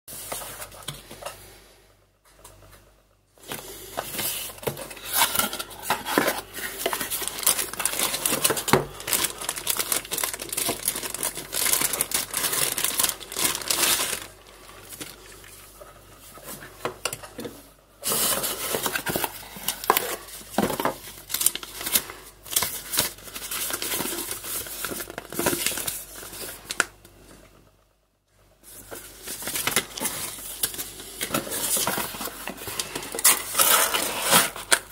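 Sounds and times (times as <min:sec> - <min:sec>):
packaging crinkling and rustling: 0:03.4 - 0:27.5, 0:28.6 - 0:34.9.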